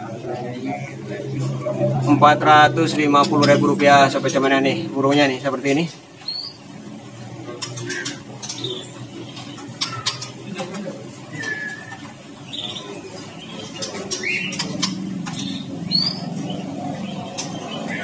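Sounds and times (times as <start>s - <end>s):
murmur of voices: 0.0s - 18.0s
songbirds chirping: 0.0s - 18.0s.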